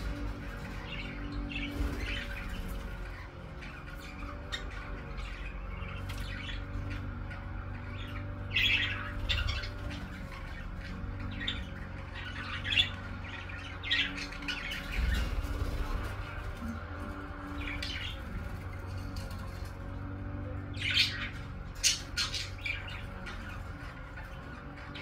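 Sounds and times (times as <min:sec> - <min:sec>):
budgerigars chirping and squawking: 0:00.0 - 0:25.0
low steady hum: 0:00.0 - 0:25.0.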